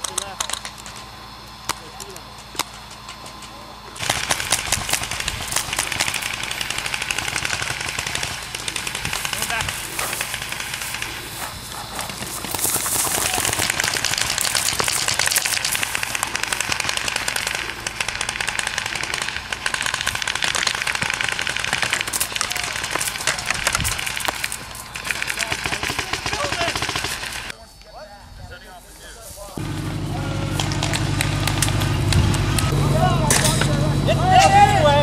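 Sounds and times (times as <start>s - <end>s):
paintball markers firing: 1.6s - 27.5s, 30.5s - 33.7s.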